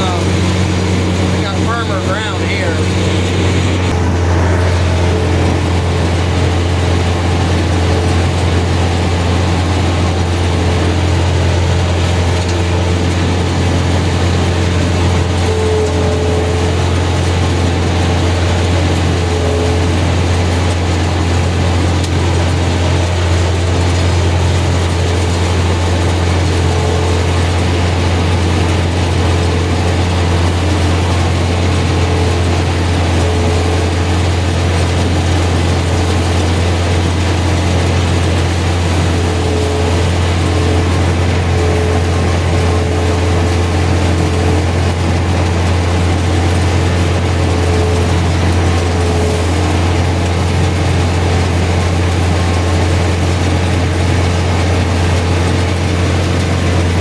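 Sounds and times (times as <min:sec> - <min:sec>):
combine harvester engine hum: 0:00.0 - 0:57.0
threshing machinery rattle: 0:00.0 - 0:57.0.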